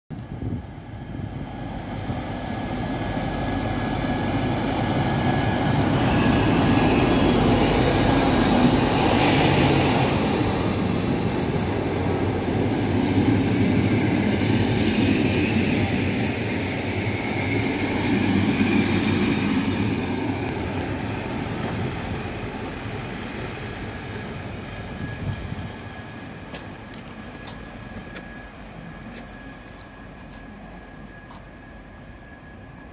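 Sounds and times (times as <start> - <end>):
diesel locomotive rumble: 0.2 - 32.9
train wheels rolling: 2.6 - 32.9.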